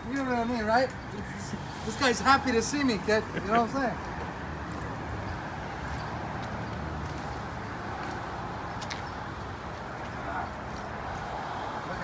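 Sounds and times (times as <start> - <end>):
street background rush: 0.0 - 12.0.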